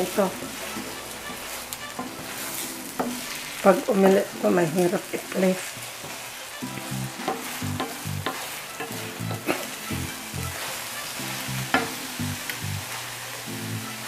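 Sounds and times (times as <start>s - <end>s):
wooden spoon scraping pan: 0.0s - 12.2s
eggs sizzling in frying pan: 0.0s - 14.0s.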